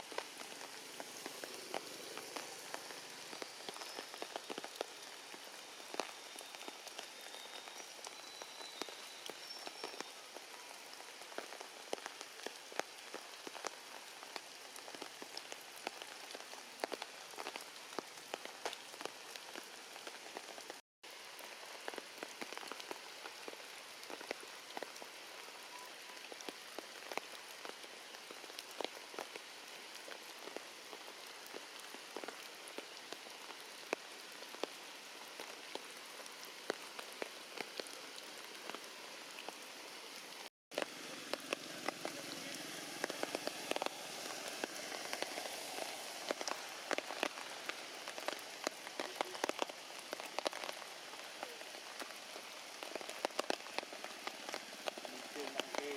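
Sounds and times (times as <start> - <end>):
heavy rain: 0.0 - 55.9
raindrops ticking close by: 0.0 - 55.9.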